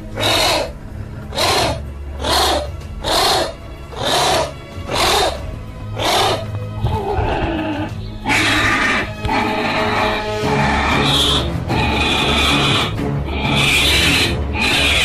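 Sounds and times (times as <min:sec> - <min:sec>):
background music with low tones: 0:00.0 - 0:15.0.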